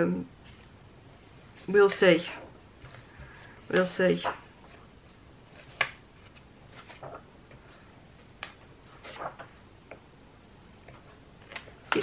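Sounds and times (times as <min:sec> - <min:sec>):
paper pages turning: 0:01.4 - 0:10.0, 0:10.8 - 0:12.0.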